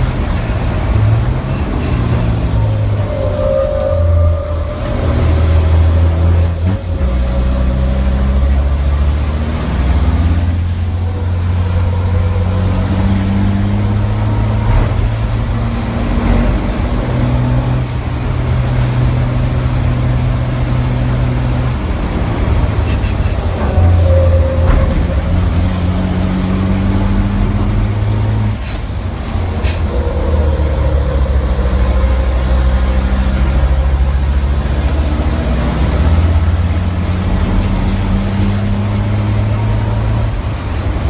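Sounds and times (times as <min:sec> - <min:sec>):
high whistle gliding: 0:00.0 - 0:15.8, 0:17.1 - 0:36.8
diesel engine under load: 0:00.0 - 0:41.0.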